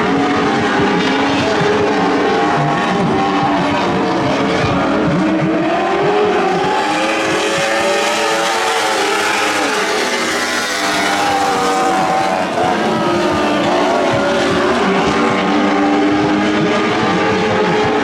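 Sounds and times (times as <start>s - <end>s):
racing cars high-revving engines: 0.0s - 18.0s.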